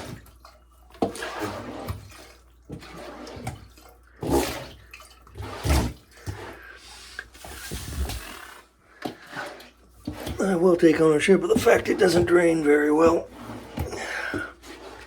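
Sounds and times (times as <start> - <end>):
water splashing in shower: 0.0 - 15.0.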